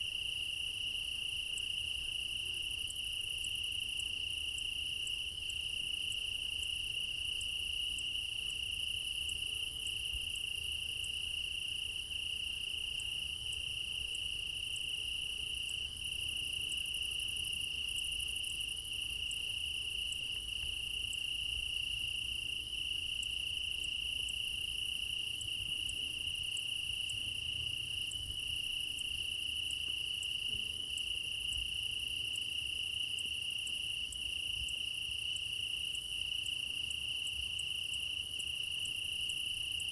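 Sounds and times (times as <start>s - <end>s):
pulsing cricket chirps: 0.0s - 39.9s.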